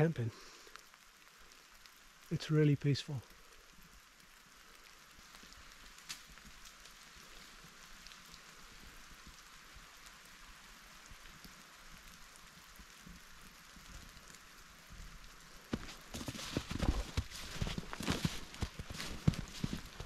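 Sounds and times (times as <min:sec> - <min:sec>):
faint hiss of water: 0:00.0 - 0:20.0
light dripping ticks: 0:00.0 - 0:20.0.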